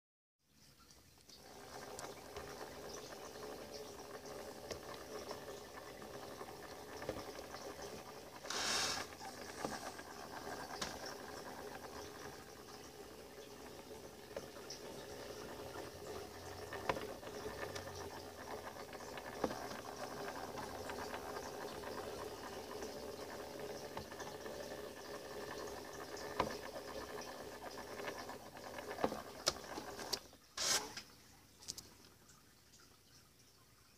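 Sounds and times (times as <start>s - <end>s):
faint hum and hiss: 0.4s - 33.9s.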